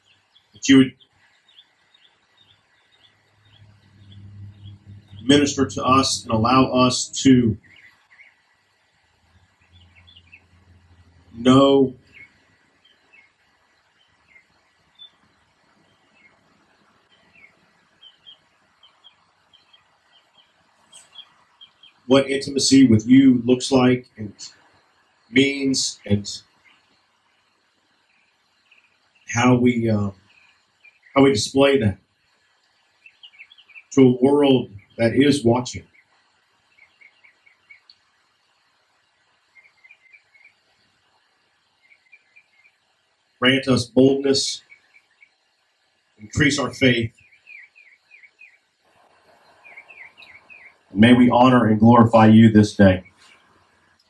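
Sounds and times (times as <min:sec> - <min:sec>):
faint bird chirps: 0:00.0 - 0:54.0
low background hiss: 0:00.0 - 0:54.0.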